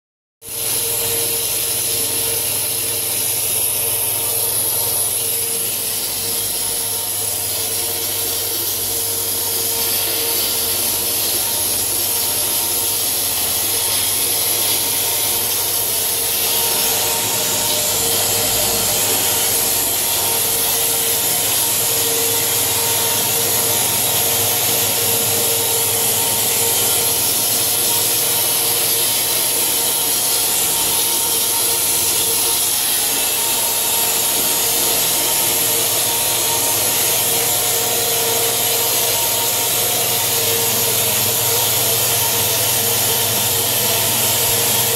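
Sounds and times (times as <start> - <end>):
machine running with hiss and hum: 0.4 - 44.9.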